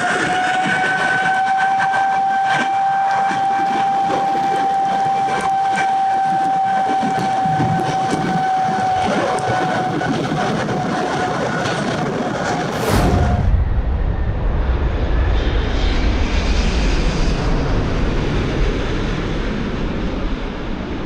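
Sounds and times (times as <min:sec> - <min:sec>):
jet engines whining: 0:00.0 - 0:18.2.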